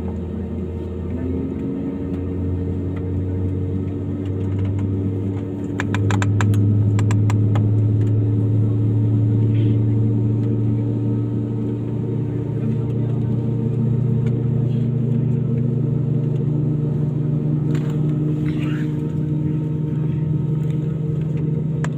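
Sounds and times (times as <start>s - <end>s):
airliner cabin engine drone: 0.0s - 21.9s.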